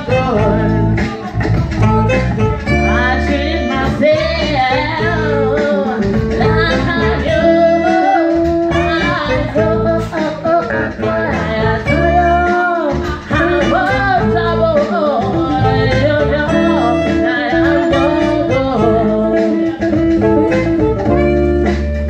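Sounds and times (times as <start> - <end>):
man singing into microphone: 0.0 - 1.5, 2.7 - 21.1
live band accompaniment: 0.0 - 22.0.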